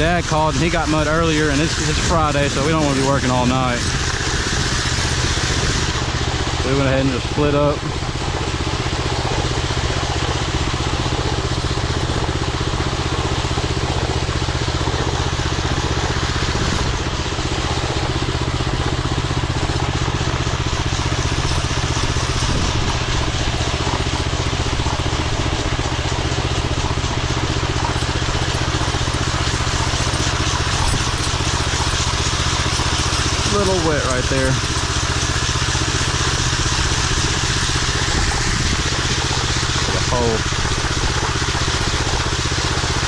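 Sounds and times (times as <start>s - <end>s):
power trowel engine humming: 0.0s - 43.0s.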